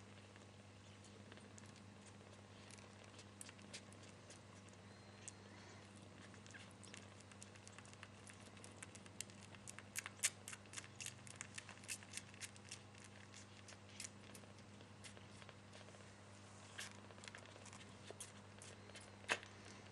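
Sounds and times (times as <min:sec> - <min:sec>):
kittens suckling: 0:00.0 - 0:19.9
low electrical hum: 0:00.0 - 0:19.9.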